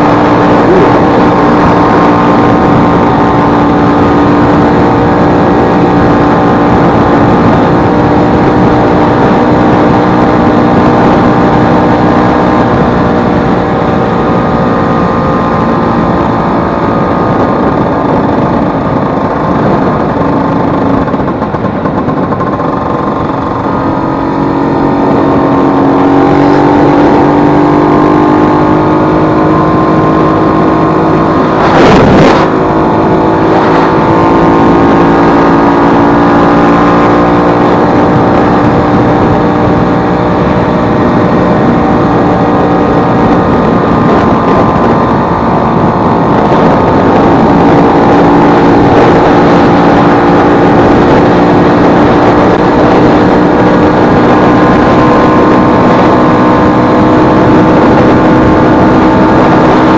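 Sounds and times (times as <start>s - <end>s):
loud rush of noise: 0.0s - 59.9s
scooter engine running: 0.0s - 59.9s.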